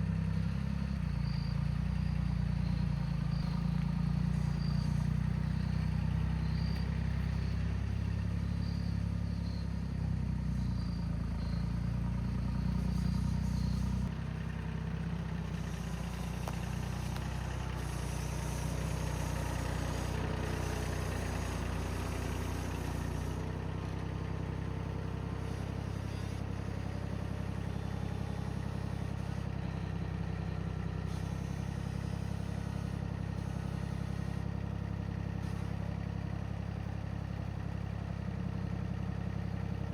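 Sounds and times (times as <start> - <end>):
engine running at low pitch: 0.0 - 39.9.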